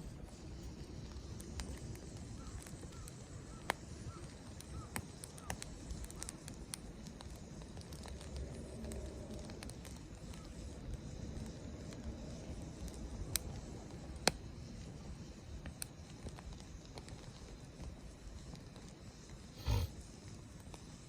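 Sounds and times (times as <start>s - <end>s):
wood fire crackling: 0.0s - 20.8s.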